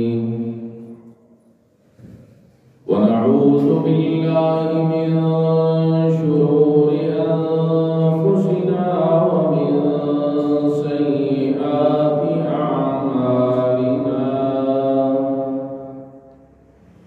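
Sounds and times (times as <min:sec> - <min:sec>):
man chanting: 0:00.0 - 0:01.1, 0:02.8 - 0:16.1.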